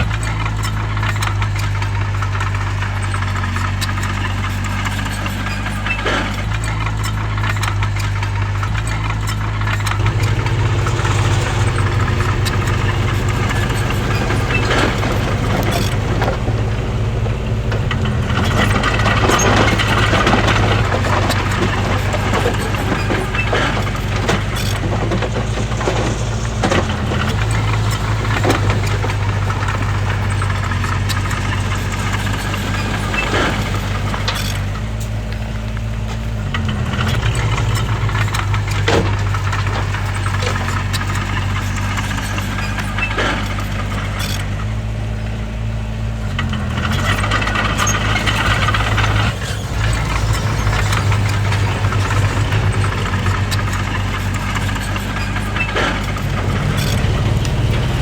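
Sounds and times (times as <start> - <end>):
bulldozer diesel engine running: 0.0 - 58.0
metallic clanks and rattles: 0.0 - 58.0.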